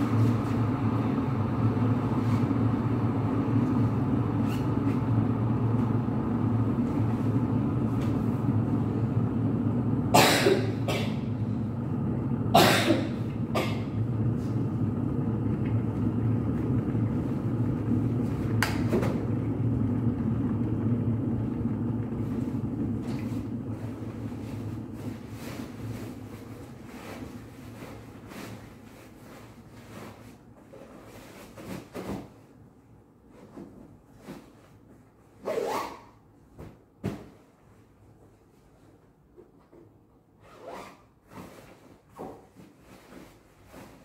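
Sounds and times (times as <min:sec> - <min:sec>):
low mechanical hum: 0:00.0 - 0:44.0.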